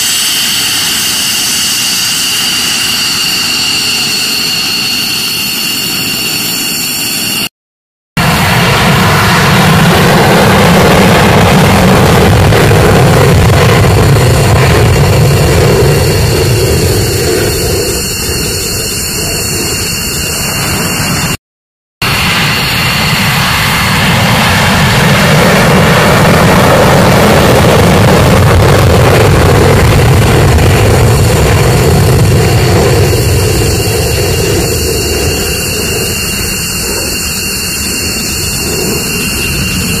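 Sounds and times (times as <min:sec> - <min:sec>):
fighter jets taking off: 0:00.0 - 0:07.5, 0:08.2 - 0:21.4, 0:22.0 - 0:40.0.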